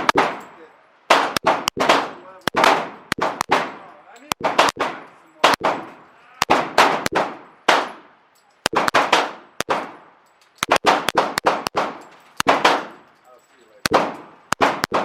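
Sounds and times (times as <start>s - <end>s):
echoing gunshots: 0.0s - 13.1s, 13.8s - 15.0s.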